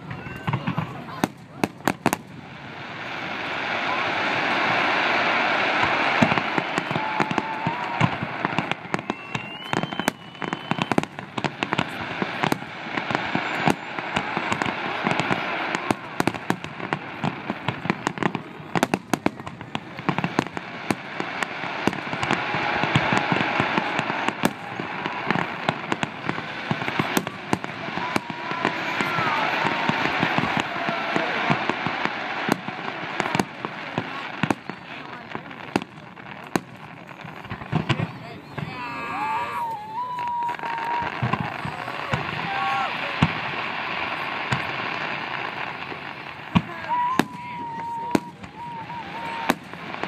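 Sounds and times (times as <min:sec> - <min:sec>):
fireworks bangs and crackling: 0:00.0 - 0:50.0.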